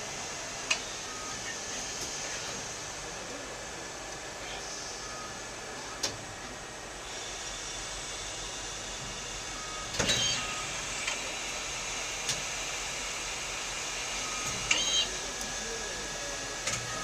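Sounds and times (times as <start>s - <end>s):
lathe machine hum with high whine: 0.0s - 17.0s.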